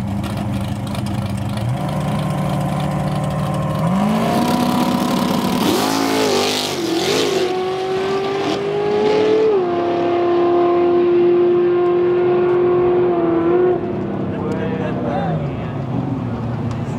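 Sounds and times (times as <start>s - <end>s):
truck engine at full throttle: 0.0s - 16.9s.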